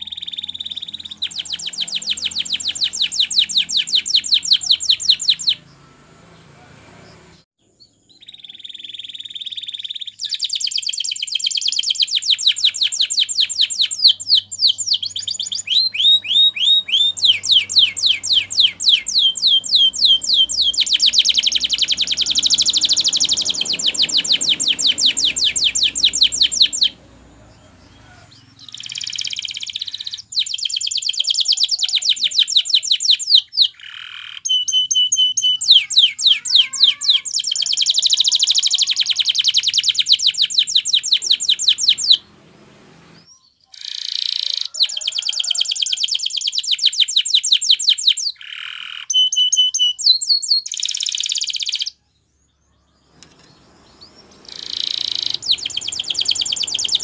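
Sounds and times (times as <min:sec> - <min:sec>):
canary trilling: 0:00.0 - 0:42.4, 0:43.0 - 0:57.0.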